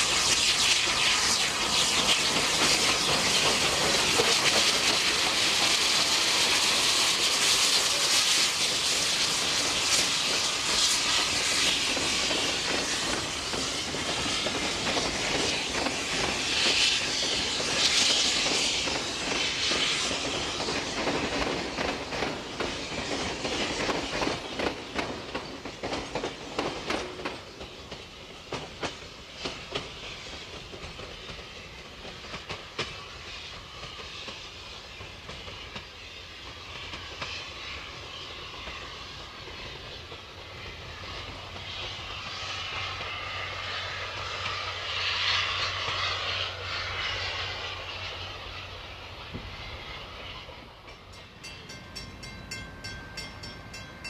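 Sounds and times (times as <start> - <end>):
steam hiss: 0.0 - 54.0
train wheels clicking on rails: 0.0 - 54.0.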